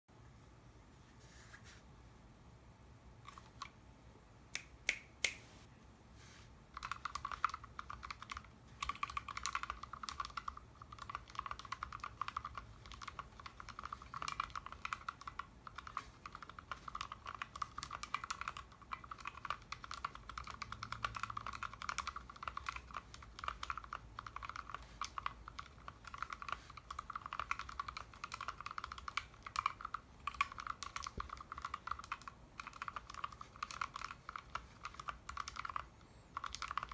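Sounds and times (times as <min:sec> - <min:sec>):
typing on mechanical keyboard: 0:06.7 - 0:36.9.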